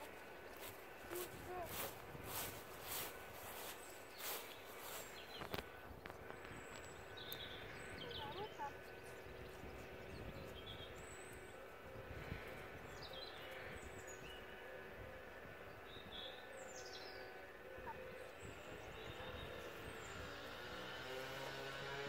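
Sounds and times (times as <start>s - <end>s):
wind rumble on microphone: 0.6s - 17.1s, 17.7s - 21.0s.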